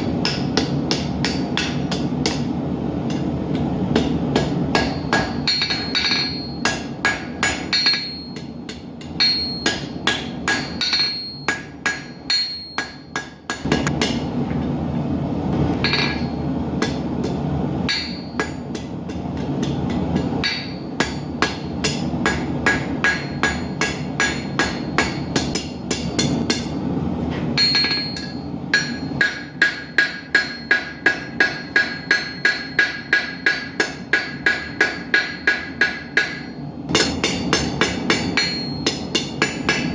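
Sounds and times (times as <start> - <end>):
hammer ringing on hot steel: 0.0 - 14.3, 15.8 - 26.9, 27.6 - 39.9.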